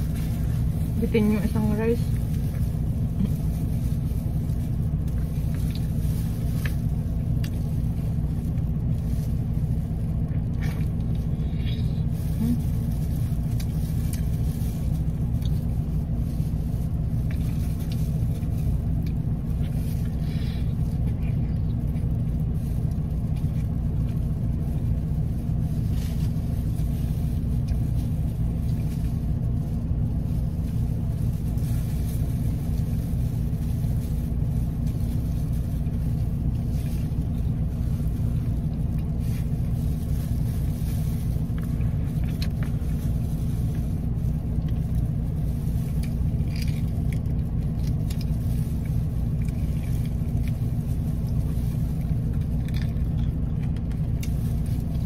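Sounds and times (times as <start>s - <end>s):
car engine idling: 0.0s - 55.0s
plastic gloves crinkling: 0.0s - 55.0s
chewing crunches: 2.1s - 55.0s.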